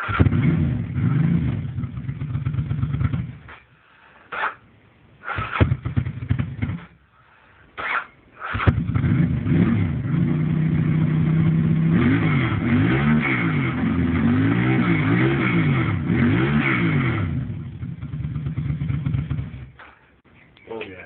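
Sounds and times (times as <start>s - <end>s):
motorcycle engine idling and revving: 0.0s - 4.6s, 5.2s - 7.2s, 7.8s - 20.3s.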